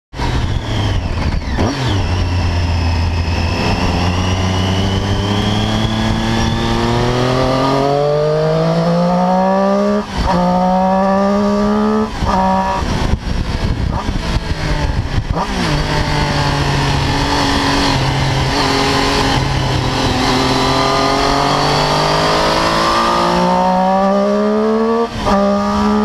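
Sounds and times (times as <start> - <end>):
motorcycle engine revving: 0.1 - 26.0
wind rush: 0.1 - 26.0.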